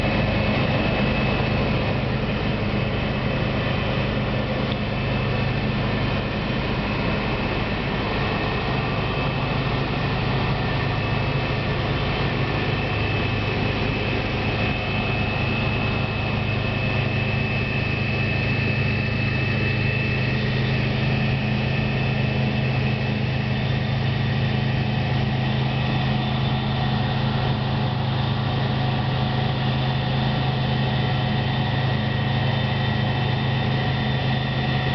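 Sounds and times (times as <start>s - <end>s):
combine harvester engine drone: 0.0s - 34.9s.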